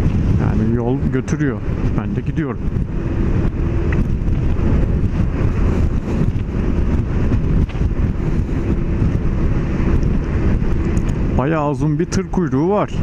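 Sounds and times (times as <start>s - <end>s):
road noise: 0.0s - 13.0s
wind noise on microphone: 0.0s - 13.0s.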